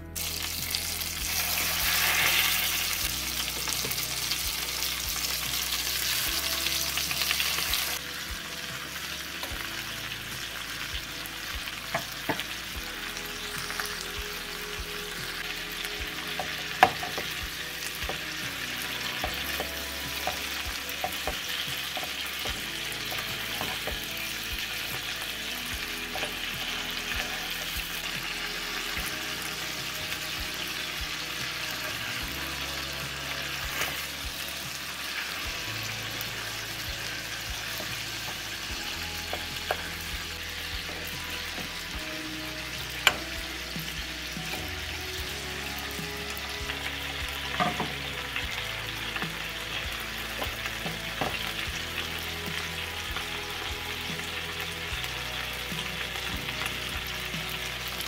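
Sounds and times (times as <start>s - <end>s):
meat sizzling in frying pan: 0.1s - 58.0s.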